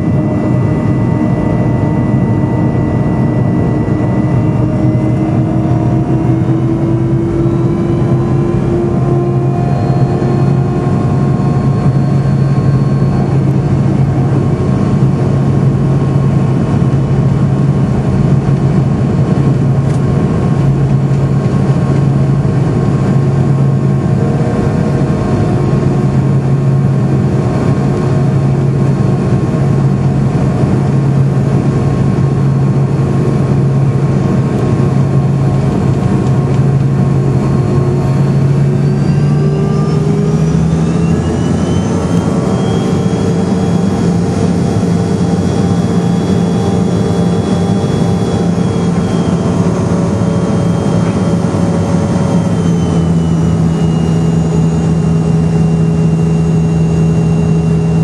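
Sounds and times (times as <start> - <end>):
aircraft cabin engine roar: 0.0 - 58.0.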